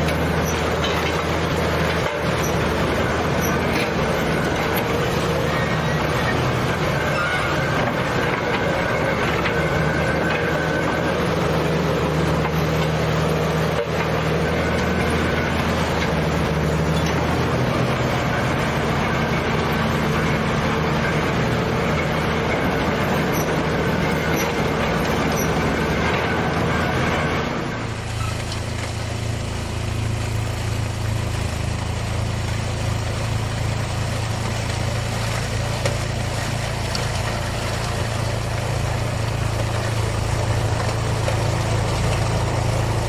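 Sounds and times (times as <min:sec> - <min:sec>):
heavy machinery engine running: 0:00.0 - 0:43.0.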